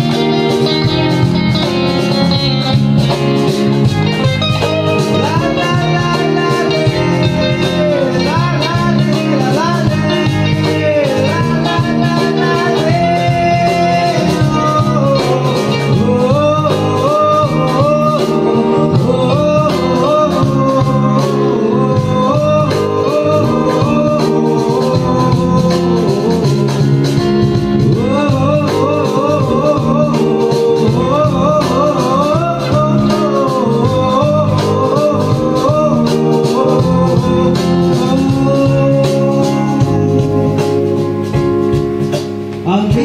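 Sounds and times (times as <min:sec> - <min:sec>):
live band playing: 0:00.0 - 0:43.0.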